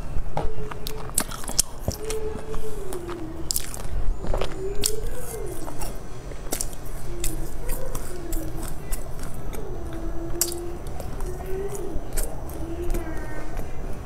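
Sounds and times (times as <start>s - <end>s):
crunchy chewing: 0.3s - 14.0s.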